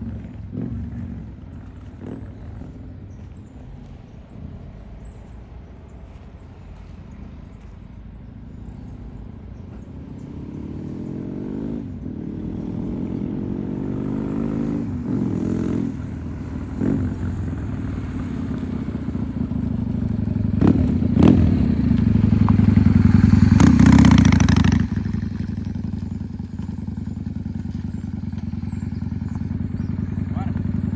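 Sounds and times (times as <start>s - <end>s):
motorcycle engine and exhaust: 0.0s - 30.9s.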